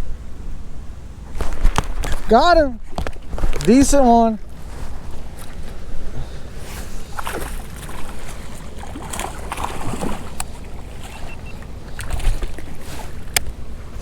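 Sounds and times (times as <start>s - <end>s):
wind rumble on microphone: 0.0s - 14.0s
water splashing: 1.4s - 14.0s.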